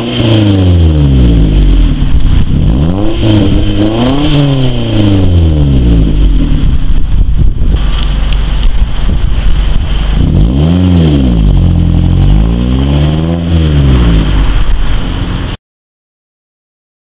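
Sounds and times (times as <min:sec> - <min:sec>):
car exhaust idling and revving: 0:00.0 - 0:15.6.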